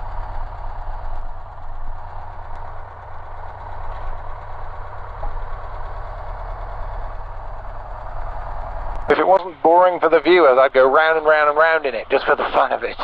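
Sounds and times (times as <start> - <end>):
airplane engine idling: 0.0 - 13.0.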